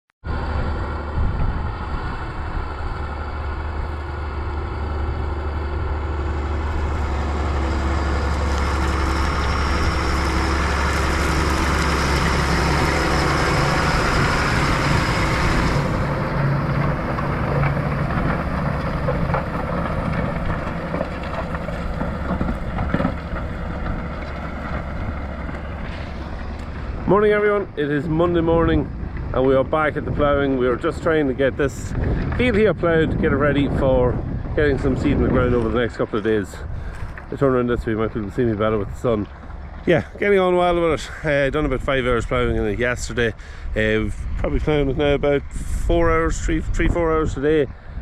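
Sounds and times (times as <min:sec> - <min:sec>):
tractor diesel engine running: 0:00.2 - 0:48.0.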